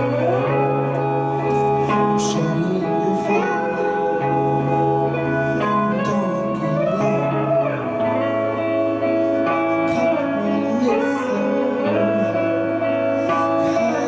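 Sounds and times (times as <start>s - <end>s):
live psychedelic band music: 0.0s - 14.0s.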